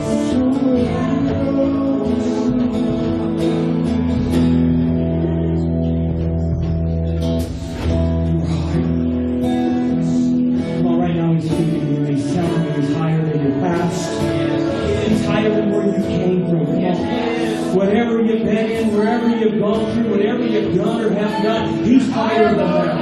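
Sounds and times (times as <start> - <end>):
strummed guitar chords: 0.0 - 23.0.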